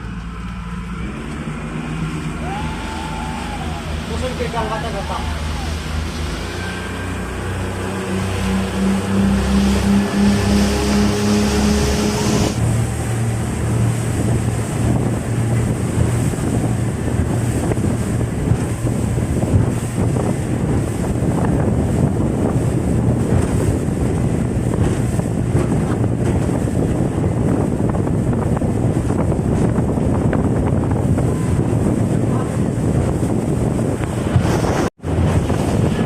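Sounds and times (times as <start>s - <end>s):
boat engine droning: 0.0s - 36.0s
water rushing and splashing: 0.0s - 36.0s
wind buffeting microphone: 0.9s - 36.0s.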